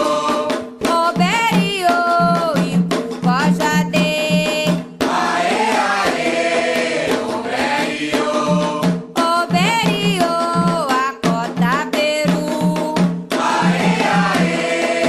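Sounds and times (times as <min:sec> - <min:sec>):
hand drums beating: 0:00.0 - 0:15.0
lead voice singing: 0:00.0 - 0:15.0.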